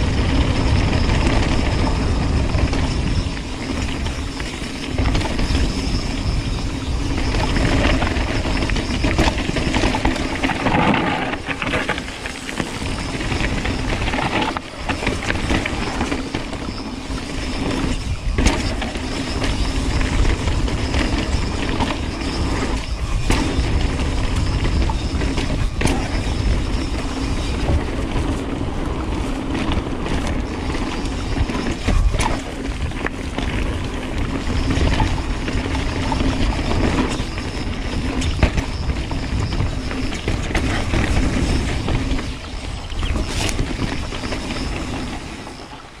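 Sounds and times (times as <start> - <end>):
bike rattling: 0.0 - 46.0
bike tyres crunching over dirt: 0.0 - 46.0
wind on microphone: 0.0 - 46.0.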